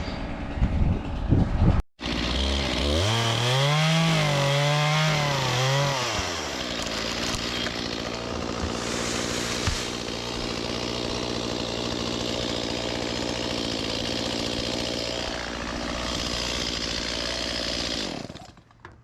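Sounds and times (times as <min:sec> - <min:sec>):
chainsaw engine revving: 0:02.0 - 0:18.8.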